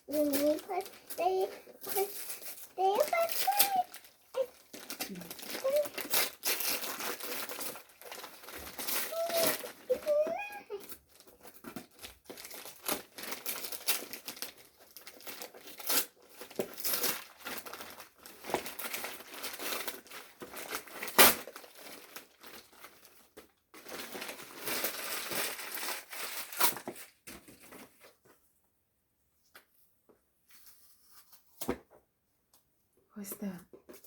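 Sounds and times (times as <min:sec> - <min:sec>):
gift wrapping tearing and rustling: 0:00.0 - 0:28.4.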